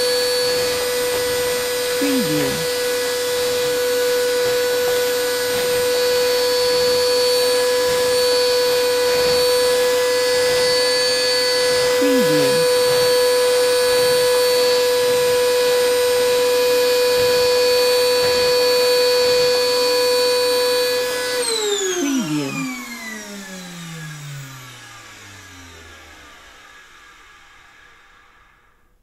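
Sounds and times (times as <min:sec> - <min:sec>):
vacuum cleaner motor whine: 0:00.0 - 0:02.0, 0:02.6 - 0:28.9.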